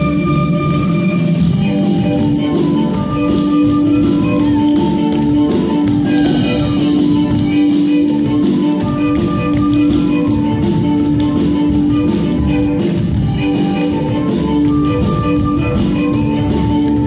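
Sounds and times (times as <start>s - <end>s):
instrumental guitar music: 0.0s - 17.0s.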